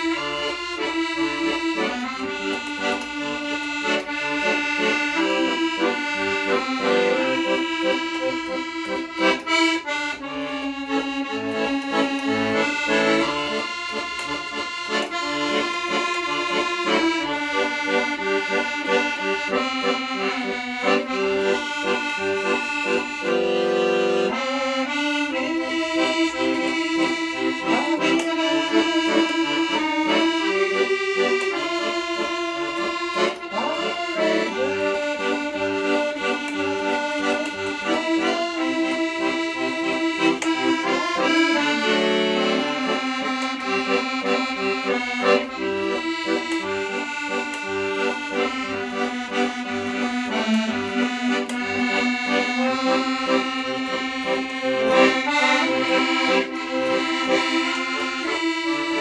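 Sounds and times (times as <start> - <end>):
accordion playing: 0.0 - 59.0.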